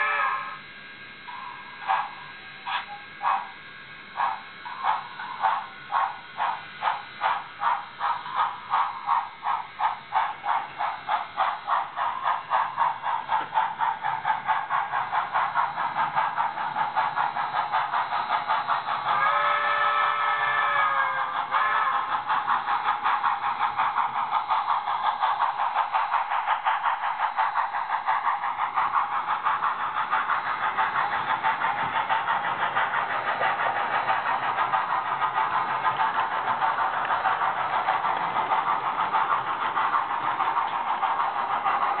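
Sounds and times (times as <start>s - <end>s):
model steam exhaust chuffs: 0.0s - 42.0s.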